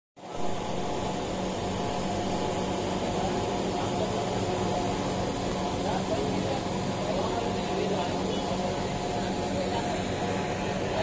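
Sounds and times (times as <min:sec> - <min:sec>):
low machine hum: 0:00.2 - 0:11.0
steady noise wash: 0:00.2 - 0:11.0.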